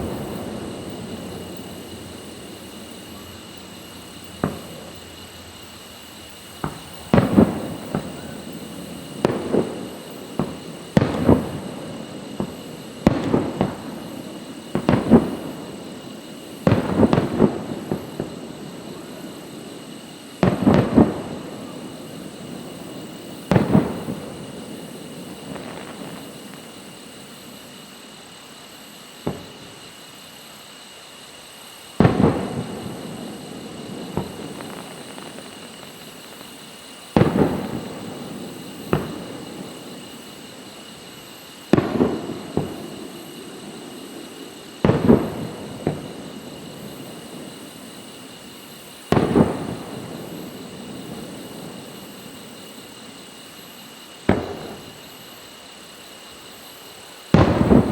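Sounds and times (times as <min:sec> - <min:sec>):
fireworks shells booming: 0:00.0 - 0:30.3, 0:31.6 - 0:55.1, 0:57.3 - 0:57.9.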